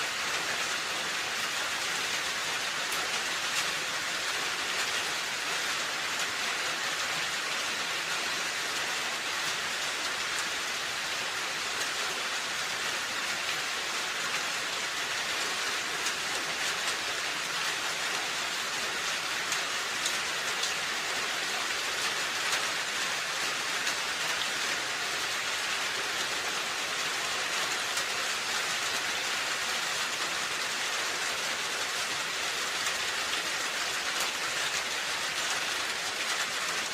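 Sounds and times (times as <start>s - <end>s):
rain on a roof: 0.0s - 36.9s.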